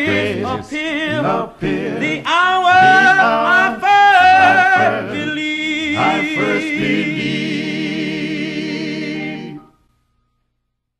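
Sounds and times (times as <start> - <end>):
man singing gospel song: 0.0 - 9.6.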